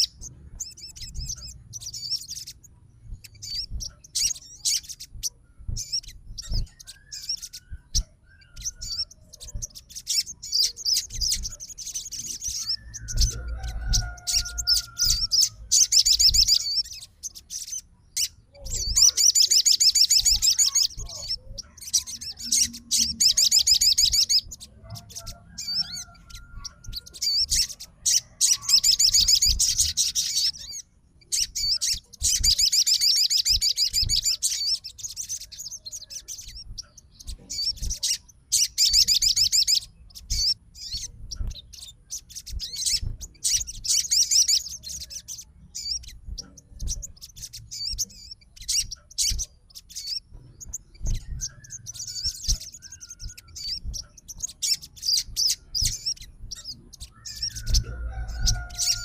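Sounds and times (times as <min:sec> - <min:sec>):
songbird chattering song: 0:00.0 - 0:59.0.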